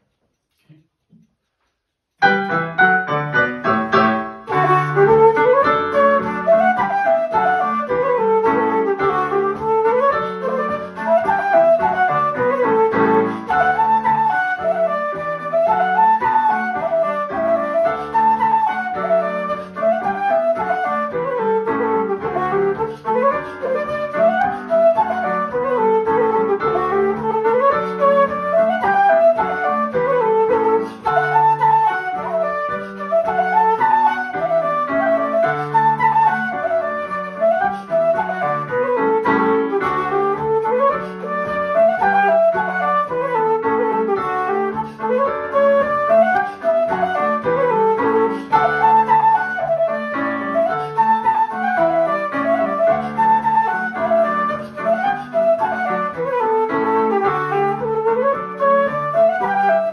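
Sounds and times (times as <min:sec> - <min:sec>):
digital piano chords: 0:02.2 - 0:59.9
fast wooden flute melody: 0:02.2 - 0:59.9.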